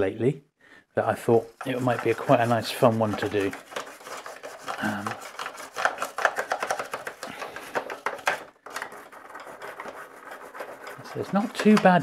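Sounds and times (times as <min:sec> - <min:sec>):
toothbrush scrubbing plastic: 0:01.1 - 0:12.0.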